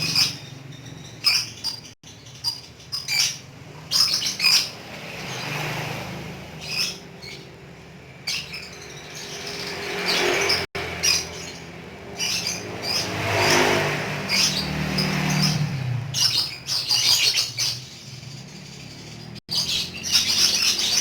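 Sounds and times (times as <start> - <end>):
birds chirping and squawking: 0.0 - 21.0.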